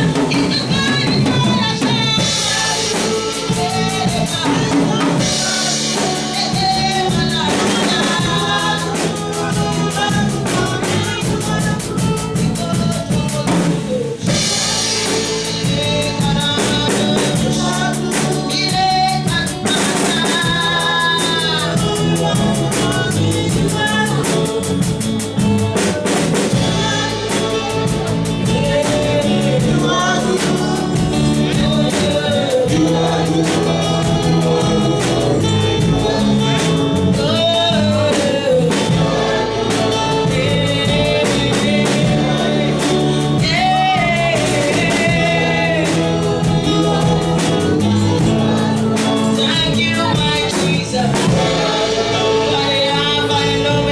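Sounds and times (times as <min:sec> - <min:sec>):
drum kit beat: 0:00.0 - 0:53.9
voices singing: 0:00.0 - 0:53.9.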